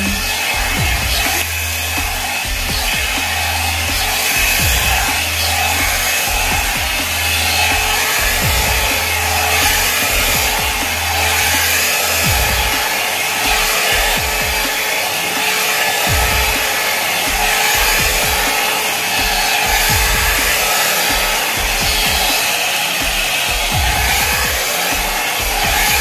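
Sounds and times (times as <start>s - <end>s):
hair styler blowing hiss: 0.0s - 26.0s.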